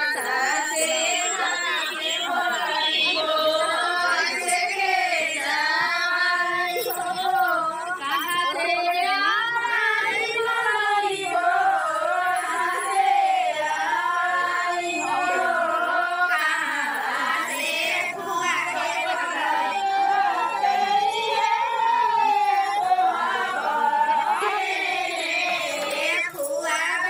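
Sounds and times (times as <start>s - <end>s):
women singing together: 0.0s - 27.0s.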